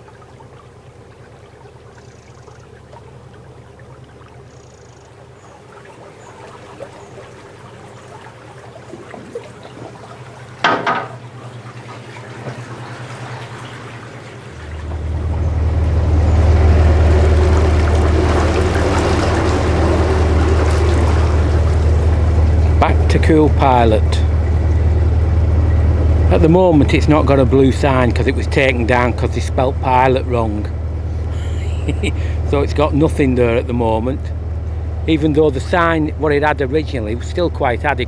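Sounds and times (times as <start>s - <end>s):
boat engine low drone: 0.0s - 38.0s
water churning: 0.0s - 38.0s
water lapping along hull: 0.0s - 38.0s.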